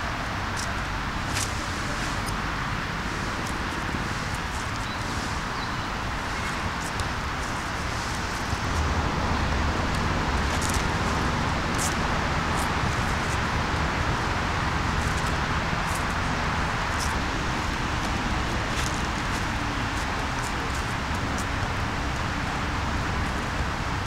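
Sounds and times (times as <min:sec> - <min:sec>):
outdoor background rush: 0:00.0 - 0:24.0.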